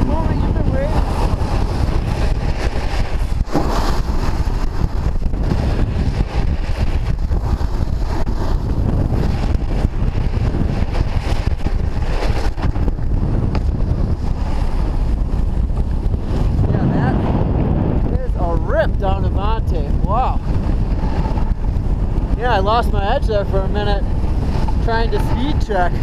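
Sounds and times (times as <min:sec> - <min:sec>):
snowboard edges scraping snow: 0:00.0 - 0:18.7, 0:20.5 - 0:26.0
wind buffeting microphone: 0:00.0 - 0:26.0.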